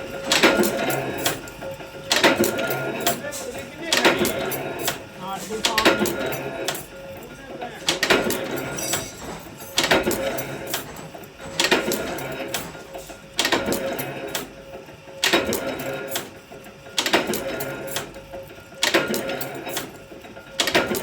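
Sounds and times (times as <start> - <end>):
machine metallic stroke and clatter: 0.0 - 21.0.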